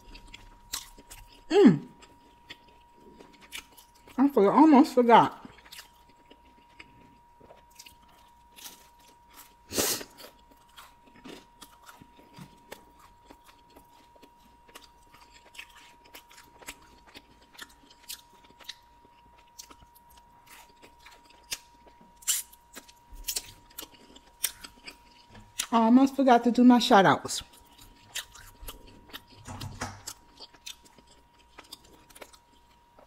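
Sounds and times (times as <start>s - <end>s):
chewing and crunching pizza: 0.0s - 33.0s.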